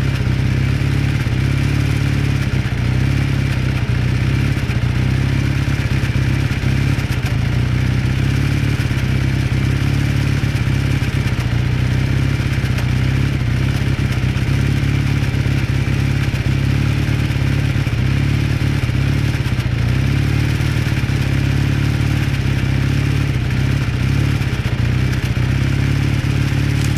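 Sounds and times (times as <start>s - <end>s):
engine knocking: 0.0s - 26.9s
motorcycle engine idling: 0.0s - 26.9s.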